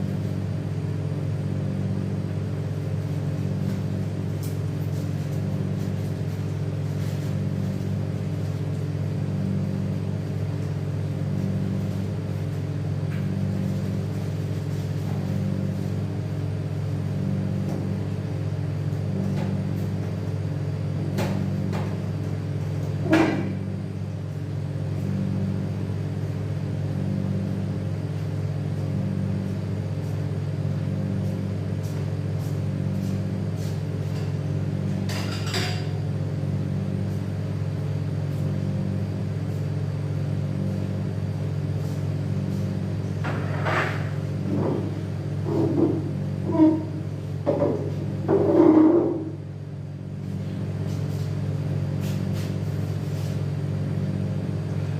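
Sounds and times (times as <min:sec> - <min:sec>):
low pulsing machine hum: 0:00.0 - 0:54.9.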